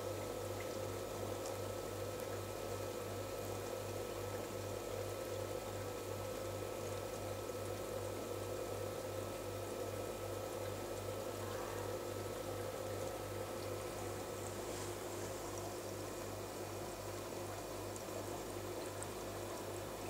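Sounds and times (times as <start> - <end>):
aquarium pump humming: 0.0 - 20.0
bubbling trickling water: 0.0 - 20.0.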